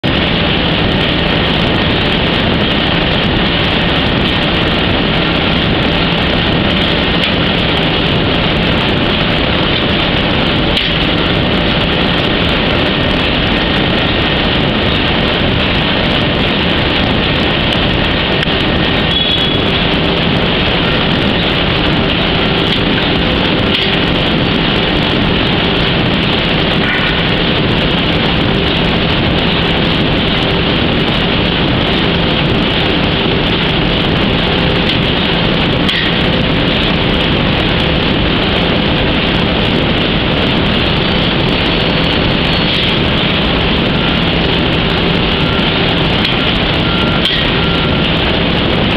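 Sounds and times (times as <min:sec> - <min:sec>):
low hum: 0:00.0 - 0:48.9
roller conveyors running: 0:00.0 - 0:48.9.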